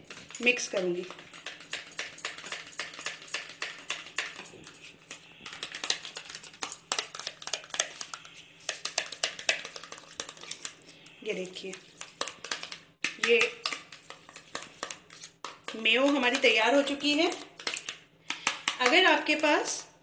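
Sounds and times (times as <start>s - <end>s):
spoon scraping plastic bowl: 0.0s - 19.1s.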